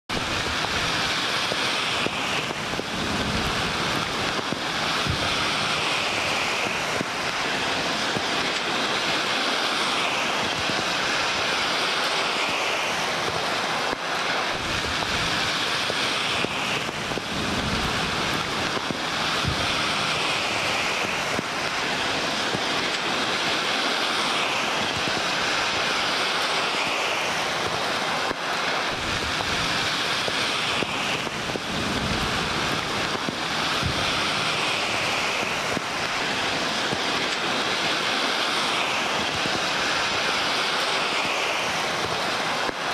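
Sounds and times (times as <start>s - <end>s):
wind rumbling on microphone: 0.0s - 42.9s
heavy rain hissing: 0.1s - 42.9s.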